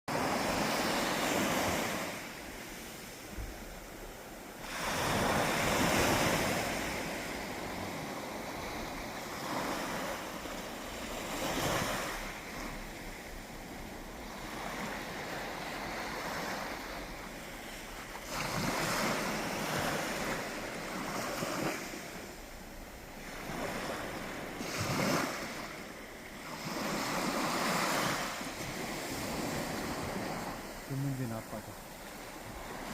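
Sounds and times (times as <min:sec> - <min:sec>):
sea waves breaking on beach: 0:00.1 - 0:32.9.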